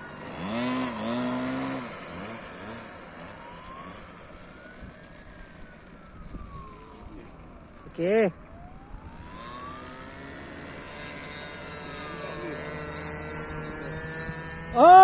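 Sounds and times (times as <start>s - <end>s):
drawn-out pitched sound: 0.0s - 15.0s
model airplane engine whining: 0.0s - 15.0s.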